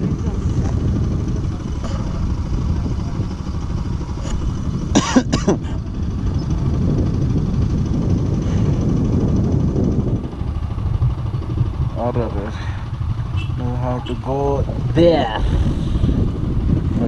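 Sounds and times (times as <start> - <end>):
motorcycle engine running: 0.0 - 17.0
road and wind rumble: 0.0 - 17.0.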